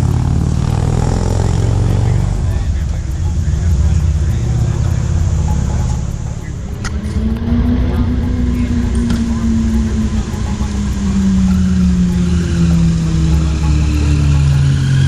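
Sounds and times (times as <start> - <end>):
steady low rumble: 0.0 - 15.0
vehicle passing: 0.0 - 15.0.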